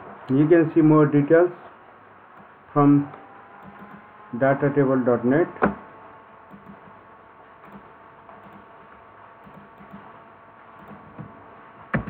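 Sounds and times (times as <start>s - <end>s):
faint hiss and hum: 0.0s - 12.0s.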